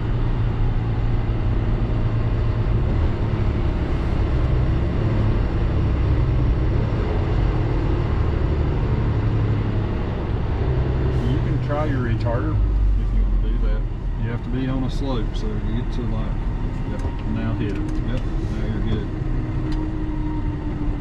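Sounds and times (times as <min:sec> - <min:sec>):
diesel engine hum in cab: 0:00.0 - 0:21.0
road and drivetrain noise: 0:00.0 - 0:21.0.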